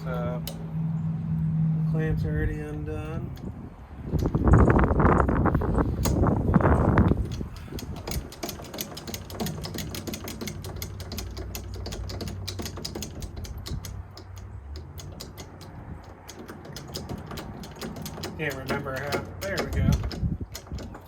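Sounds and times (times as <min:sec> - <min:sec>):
rapid ratcheting clicks: 0:04.1 - 0:21.0
rustling clatter: 0:04.1 - 0:21.0.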